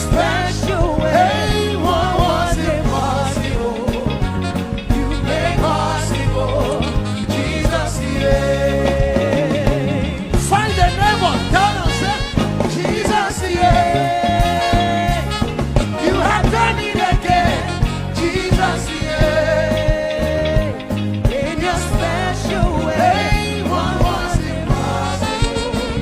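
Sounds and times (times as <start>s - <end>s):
live gospel band music: 0.0s - 26.0s.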